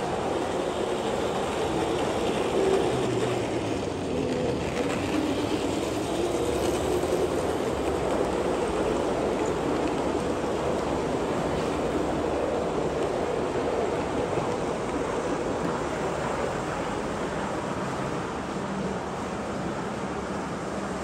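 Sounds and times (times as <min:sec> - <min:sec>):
model train wheels rumbling: 0:00.0 - 0:18.9.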